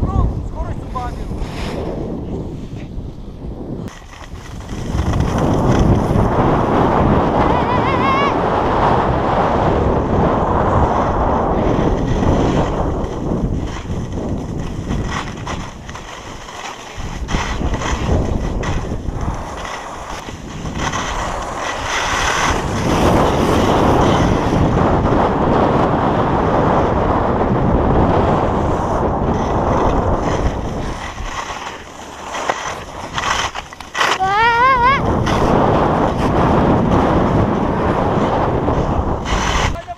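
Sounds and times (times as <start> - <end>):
wind rushing over microphone: 0.0 - 39.9
skis scraping over snow: 0.8 - 39.9.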